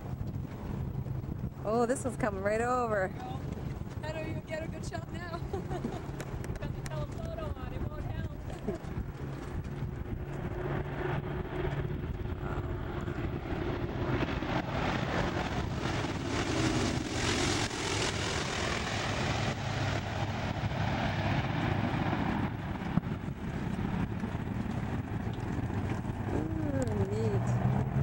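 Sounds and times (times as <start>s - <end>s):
propeller plane droning overhead: 0.0s - 28.0s.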